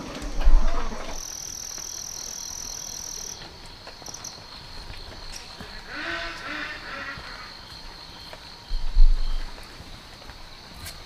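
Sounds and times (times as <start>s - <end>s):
faint insect drone: 0.0s - 11.0s
insect trilling and chirping: 0.0s - 11.0s.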